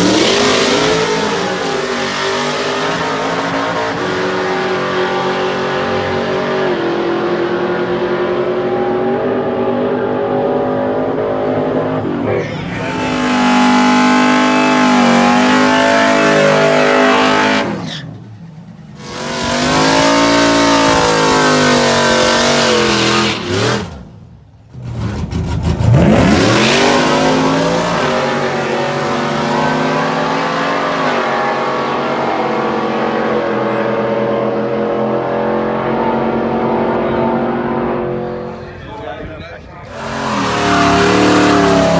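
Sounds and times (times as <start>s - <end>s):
truck engines revving hard: 0.0s - 41.9s.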